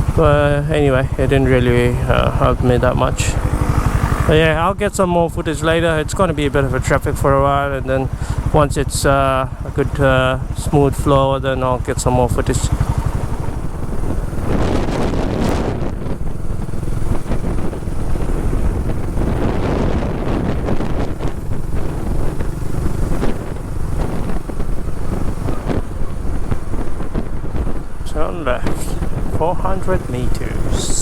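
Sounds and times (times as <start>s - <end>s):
motorcycle engine: 0.0s - 31.0s
road noise: 0.0s - 31.0s
wind buffeting microphone: 0.0s - 31.0s.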